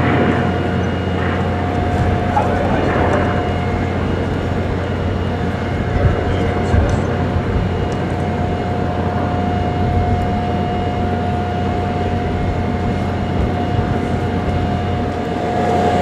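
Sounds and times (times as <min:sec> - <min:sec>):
distant propeller aircraft engines droning: 0:00.0 - 0:16.0.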